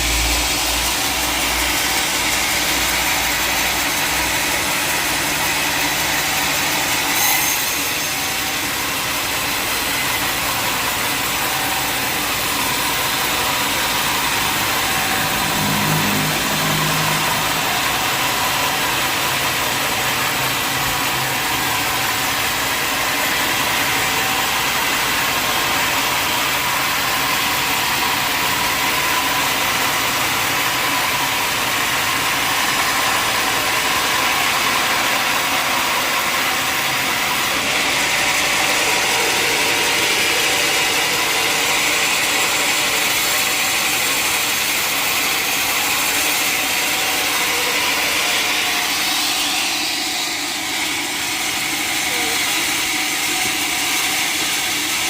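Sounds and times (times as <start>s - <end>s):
sawmill machinery whining: 0.0s - 55.0s.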